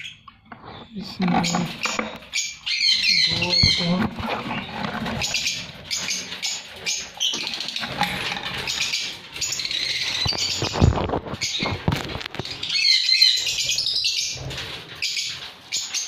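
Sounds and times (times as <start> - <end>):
lovebirds chirping and squawking: 0.0 - 16.0.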